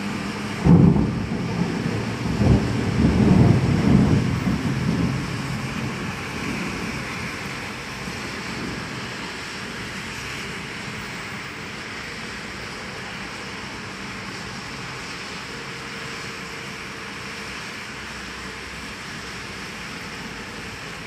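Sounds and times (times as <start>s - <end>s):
rain hissing: 0.0s - 21.0s
traffic on wet road: 0.0s - 21.0s.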